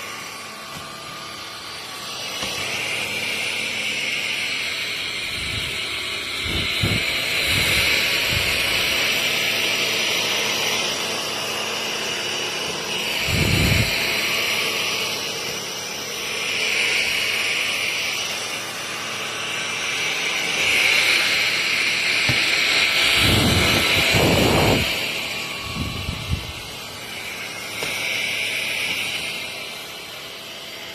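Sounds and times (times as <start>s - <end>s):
stick vacuum running: 0.0s - 30.9s.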